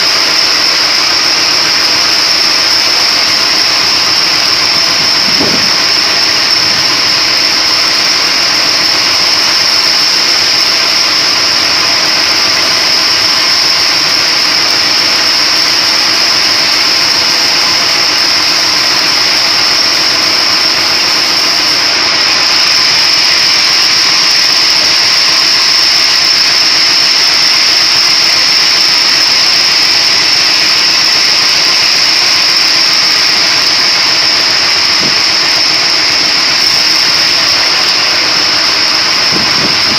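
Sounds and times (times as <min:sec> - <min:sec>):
high-pitched whine: 0:00.0 - 0:39.9
splitting machine running: 0:00.0 - 0:39.9.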